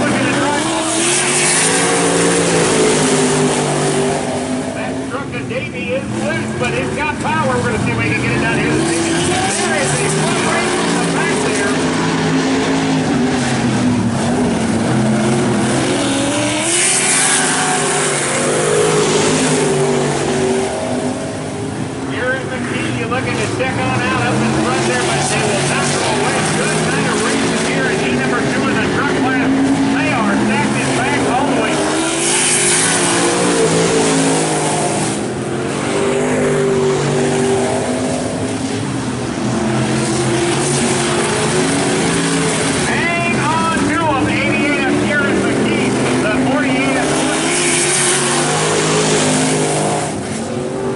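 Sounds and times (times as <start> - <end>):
racing truck engines: 0.0 - 50.9.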